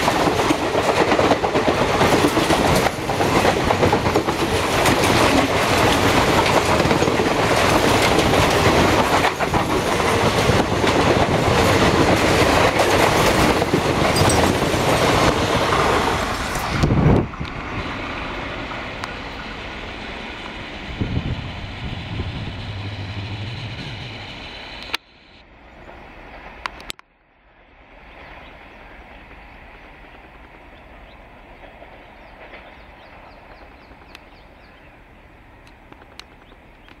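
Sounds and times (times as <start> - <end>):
train wheels rattling on rails: 0.0 - 25.0, 28.2 - 37.0
distant train rumble: 0.0 - 37.0.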